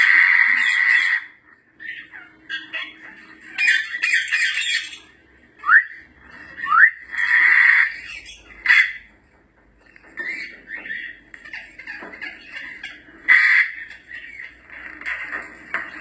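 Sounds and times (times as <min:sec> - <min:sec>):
parrot harsh calls: 0:00.0 - 0:09.2, 0:10.0 - 0:16.0.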